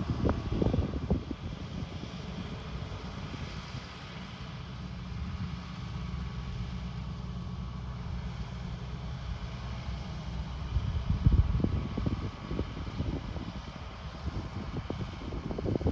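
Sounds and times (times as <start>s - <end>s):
tractor engine running: 0.0s - 15.9s.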